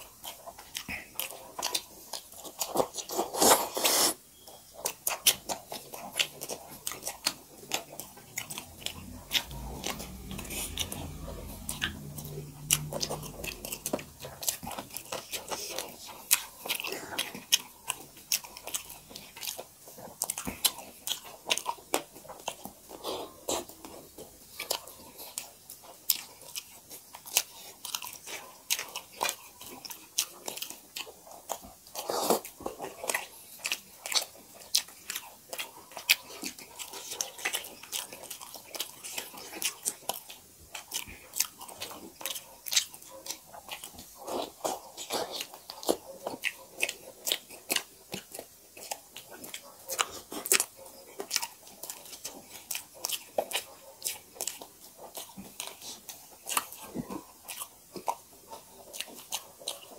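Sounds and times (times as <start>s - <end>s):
wet chewing mouth sounds: 0.0s - 59.9s.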